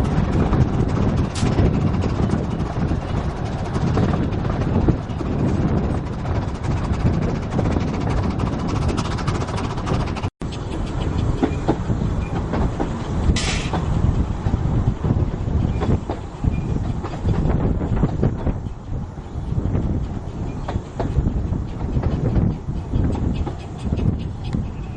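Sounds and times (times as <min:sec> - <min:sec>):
train wheels clattering on rails: 0:00.0 - 0:24.9.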